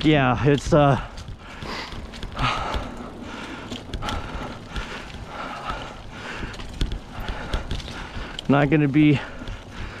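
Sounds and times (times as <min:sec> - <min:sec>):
bike knocking and rattling: 0:00.0 - 0:10.0.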